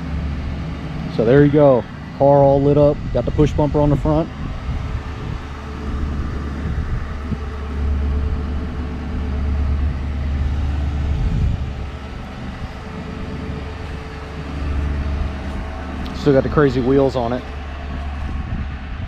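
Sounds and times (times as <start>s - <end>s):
car engine idling: 0.0s - 19.0s
wind rumbling on microphone: 0.0s - 19.0s.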